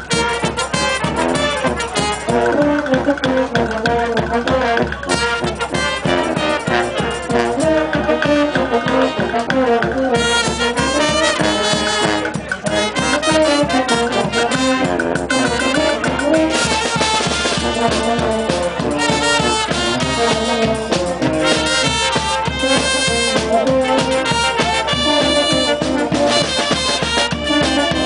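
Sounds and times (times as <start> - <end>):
bass drum and cymbal beat: 0.0 - 28.0
brass band playing: 0.0 - 28.0.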